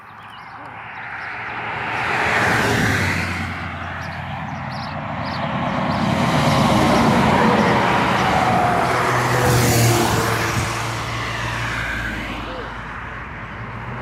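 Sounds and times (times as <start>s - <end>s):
delivery van passing: 1.6s - 12.9s.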